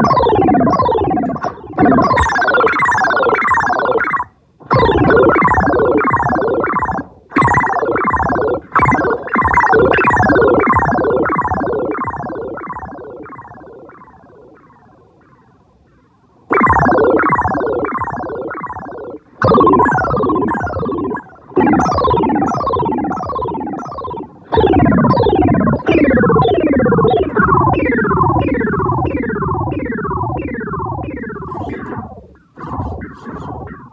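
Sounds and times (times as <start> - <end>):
synthesizer falling pitch sweeps: 0.0 - 15.5, 16.5 - 33.9.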